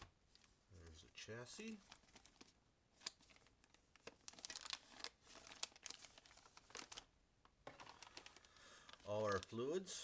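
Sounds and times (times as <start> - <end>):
plastic packaging crinkling: 0.4 - 9.8.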